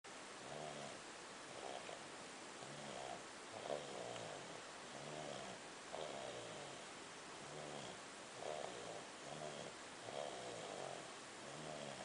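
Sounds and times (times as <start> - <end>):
faint rasping snore: 0.4 - 2.0, 2.6 - 12.0.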